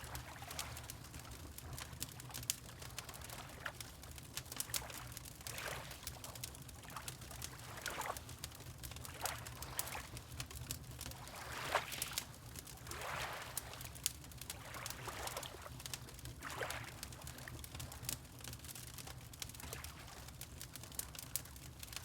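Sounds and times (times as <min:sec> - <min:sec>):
fireplace crackling and popping: 0:00.0 - 0:11.2, 0:13.6 - 0:22.0
water lapping and splashing: 0:00.0 - 0:18.2, 0:19.4 - 0:21.1.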